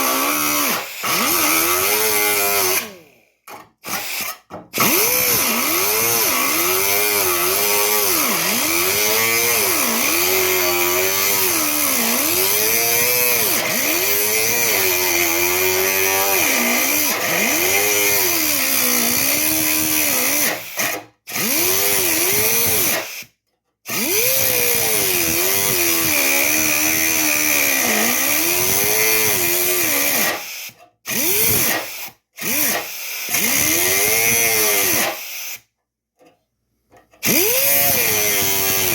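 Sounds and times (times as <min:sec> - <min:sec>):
power tool cutting sheet steel: 0:00.0 - 0:03.0, 0:03.9 - 0:23.3, 0:23.9 - 0:35.6, 0:37.2 - 0:38.9.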